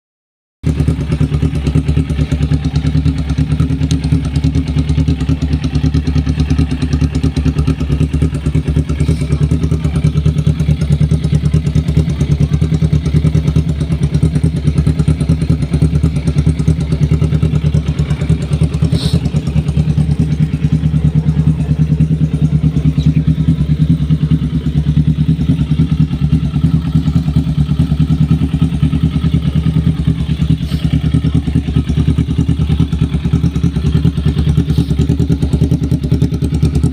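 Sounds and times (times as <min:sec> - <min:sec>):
motorcycle engine idling: 0:00.6 - 0:36.9.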